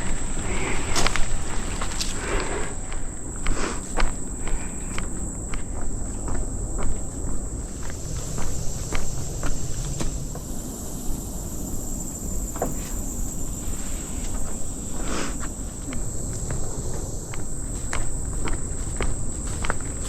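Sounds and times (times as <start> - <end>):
footsteps on trail: 0.0 - 20.0
insects droning: 0.0 - 20.0.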